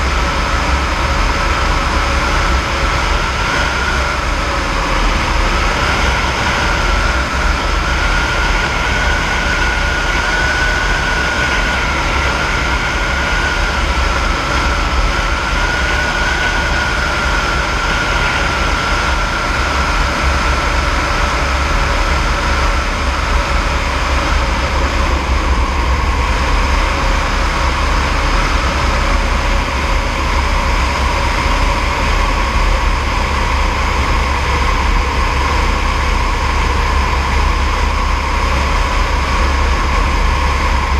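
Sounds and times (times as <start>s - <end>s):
helicopter turbine and rotor noise: 0.0s - 40.9s.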